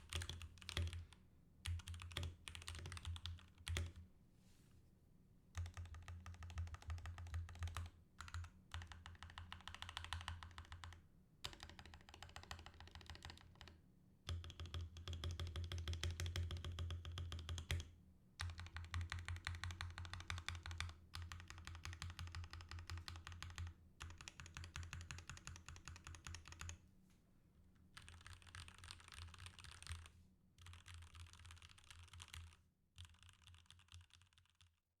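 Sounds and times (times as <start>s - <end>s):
mechanical keyboard typing: 0.0s - 4.0s, 5.6s - 17.8s, 18.4s - 26.8s, 28.0s - 34.8s.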